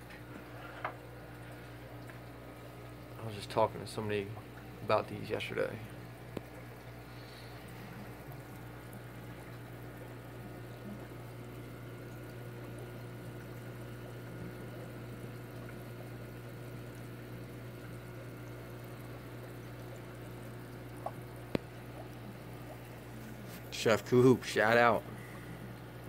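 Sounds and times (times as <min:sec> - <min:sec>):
aquarium water bubbling: 0:00.0 - 0:26.0
equipment hum: 0:00.0 - 0:26.0.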